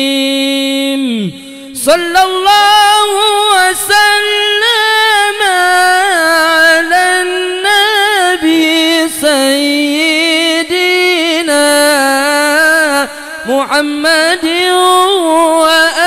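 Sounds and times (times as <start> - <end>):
man singing devotional chant: 0.0 - 16.0.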